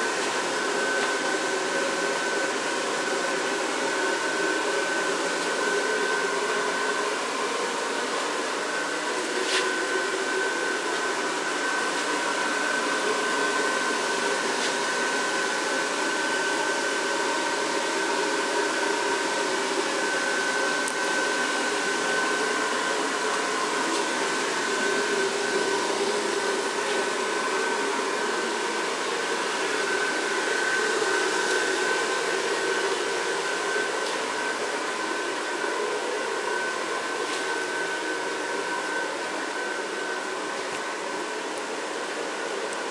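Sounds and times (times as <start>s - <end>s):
blower fan whirring: 0.0s - 42.9s.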